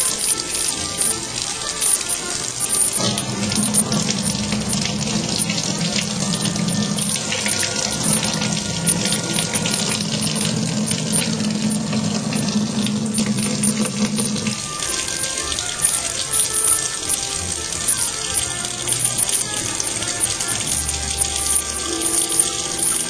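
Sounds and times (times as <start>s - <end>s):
tap water splashing into sink: 0.0s - 23.0s.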